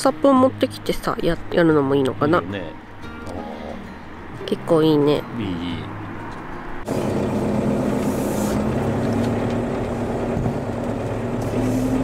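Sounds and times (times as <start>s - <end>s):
road and tyre noise: 0.0s - 12.0s
van engine hum: 0.0s - 12.0s.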